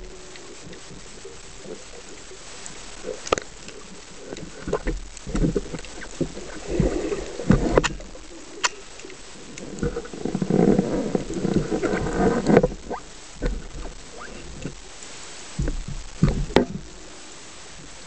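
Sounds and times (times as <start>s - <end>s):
underwater clicks and knocks: 0.0s - 14.8s, 15.6s - 17.0s
muffled low rumble: 0.0s - 18.0s.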